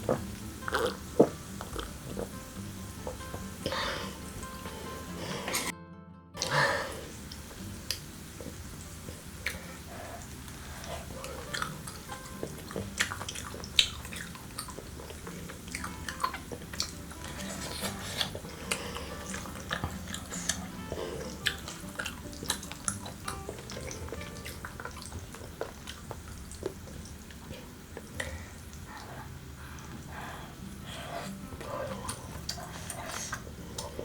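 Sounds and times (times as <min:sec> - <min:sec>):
wet chewing and mouth clicks: 0:00.0 - 0:05.7, 0:06.4 - 0:34.0.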